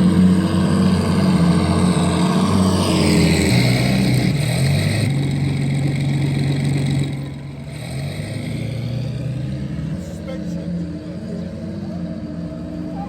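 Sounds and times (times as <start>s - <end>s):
model tanks droning: 0.0s - 13.0s.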